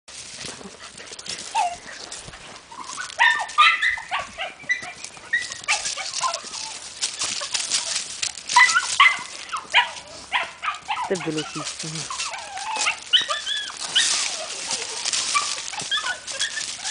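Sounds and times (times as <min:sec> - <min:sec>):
dry leaves crackling underfoot: 0:00.1 - 0:16.9
dog whining and yipping: 0:01.4 - 0:16.9.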